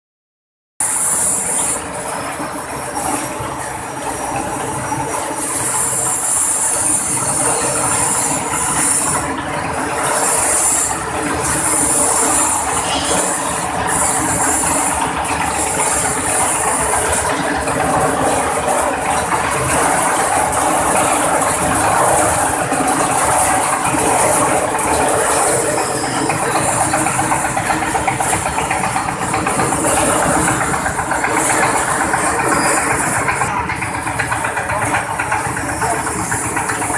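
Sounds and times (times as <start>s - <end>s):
peeling machine drum clattering: 2.8s - 36.9s.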